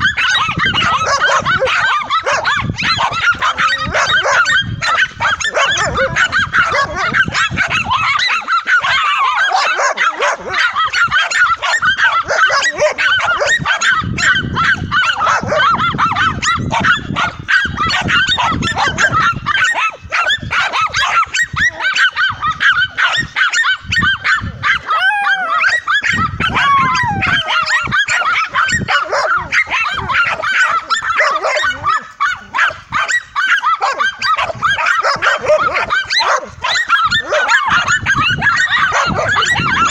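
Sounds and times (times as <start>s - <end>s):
dog whining: 0.0s - 39.9s
dogs barking and yapping: 0.0s - 39.9s.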